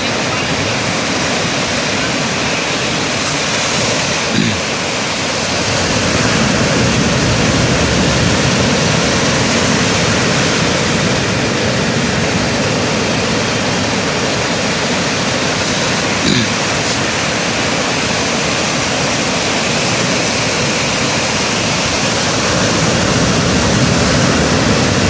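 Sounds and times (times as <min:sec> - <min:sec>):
sea surf breaking on beach: 0:00.0 - 0:25.0.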